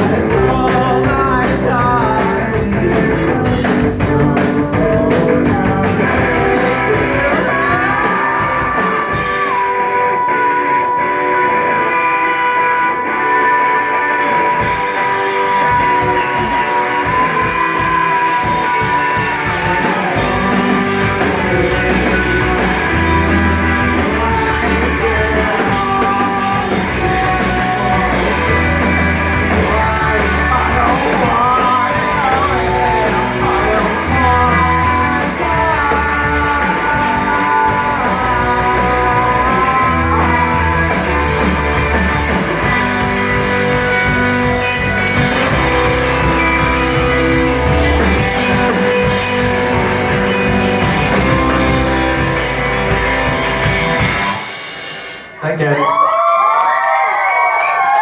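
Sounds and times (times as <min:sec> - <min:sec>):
low bass: 0:00.0 - 0:09.6, 0:15.5 - 0:54.4
live rock band playing: 0:00.0 - 0:55.8.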